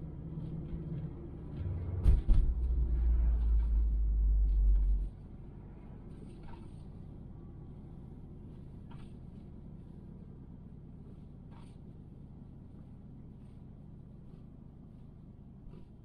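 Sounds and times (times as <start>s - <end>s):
low car cabin rumble: 0.0s - 16.0s.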